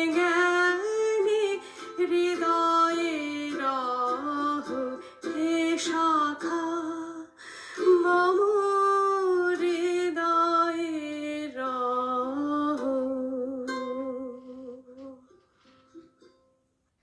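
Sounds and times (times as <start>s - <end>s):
woman singing long notes: 0.0s - 15.3s.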